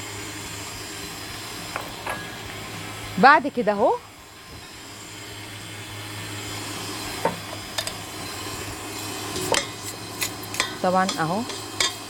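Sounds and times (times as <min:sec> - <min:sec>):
stand mixer humming: 0:00.0 - 0:12.0.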